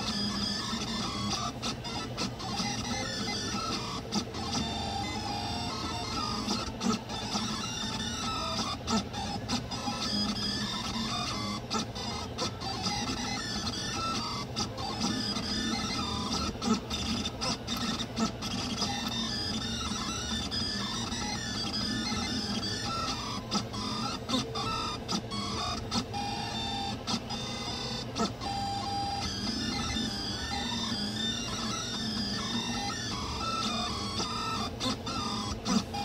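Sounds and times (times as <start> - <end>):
cooling fan whirring: 0.0 - 36.0
stepper motors whining: 0.0 - 36.0.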